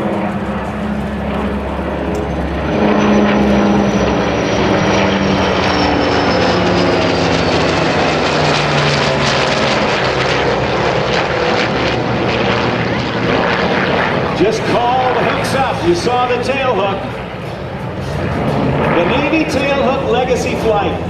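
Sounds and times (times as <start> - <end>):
jet engine whine: 0.0 - 21.0
piston aircraft engines droning: 0.0 - 21.0.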